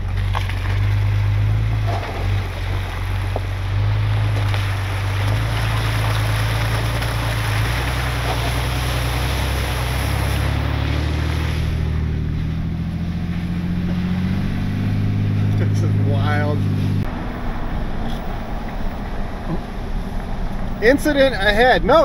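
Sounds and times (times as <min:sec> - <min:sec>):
tyre and road noise: 0:00.0 - 0:22.0
vehicle engine droning: 0:00.0 - 0:22.0.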